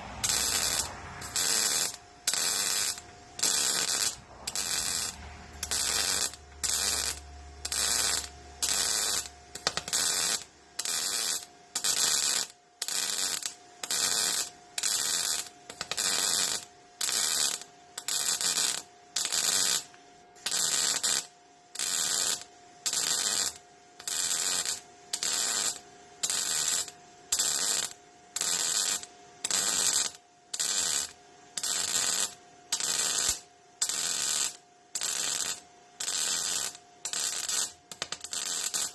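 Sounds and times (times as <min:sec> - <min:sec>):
welder arc crackling: 0:00.0 - 0:38.9.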